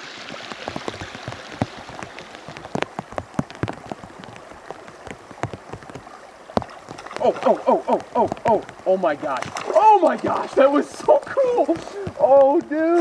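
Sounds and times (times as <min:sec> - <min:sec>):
rain falling on pond: 0:00.0 - 0:13.0.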